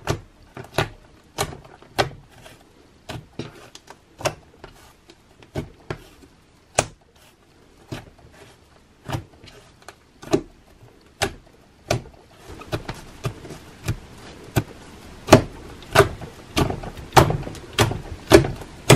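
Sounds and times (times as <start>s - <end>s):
slime squishing: 0.0s - 18.9s.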